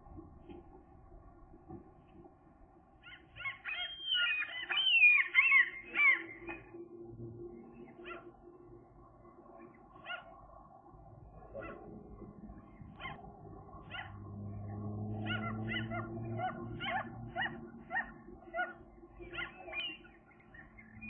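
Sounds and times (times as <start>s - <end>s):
low steady hum: 0.0s - 21.0s
gulls calling: 3.0s - 10.6s, 11.4s - 21.0s.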